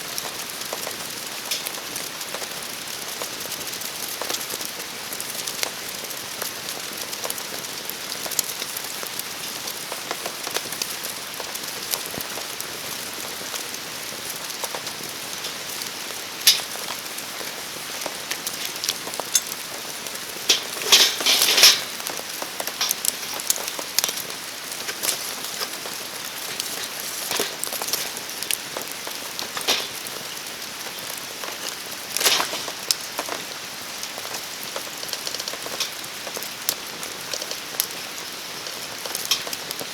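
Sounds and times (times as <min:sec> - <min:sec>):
campfire crackling and popping: 0:00.0 - 0:39.9
steady rain falling: 0:00.0 - 0:39.9.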